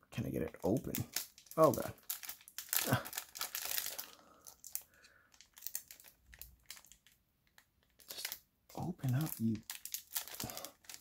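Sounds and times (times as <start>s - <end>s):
plastic wrapper crinkling: 0.4s - 11.0s.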